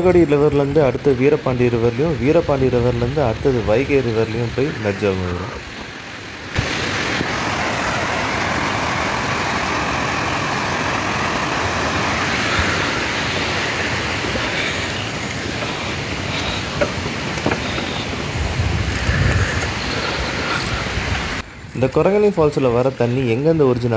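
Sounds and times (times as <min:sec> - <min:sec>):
stream rushing over rocks: 0:00.0 - 0:21.4.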